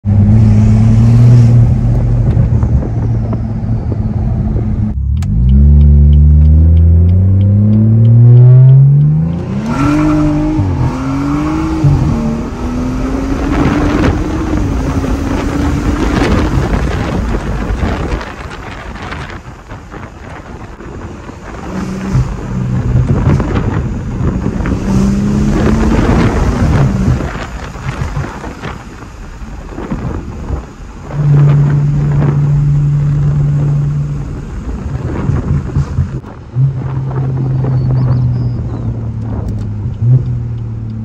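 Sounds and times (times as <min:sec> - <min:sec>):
car engine under full throttle: 0:00.0 - 0:41.0.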